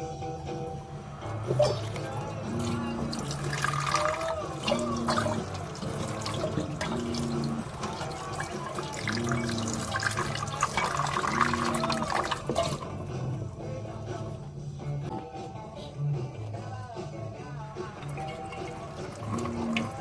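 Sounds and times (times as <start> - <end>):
water splashing: 0.7 - 15.8, 16.4 - 20.0
tap water running into sink: 0.8 - 15.2, 16.3 - 20.0.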